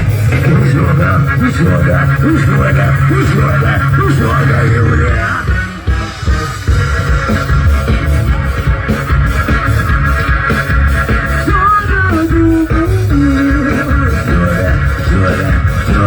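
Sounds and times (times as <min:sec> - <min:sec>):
live band instrumental music: 0:00.0 - 0:16.0.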